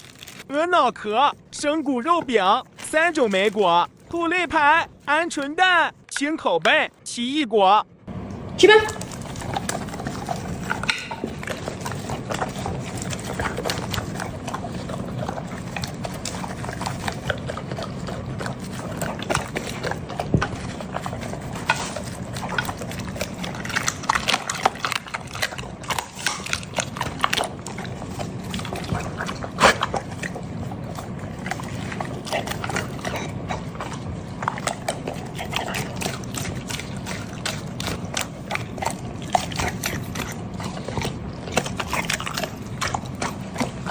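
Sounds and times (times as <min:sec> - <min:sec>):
dog chewing and crunching bone: 0:00.0 - 0:05.6, 0:08.1 - 0:43.9.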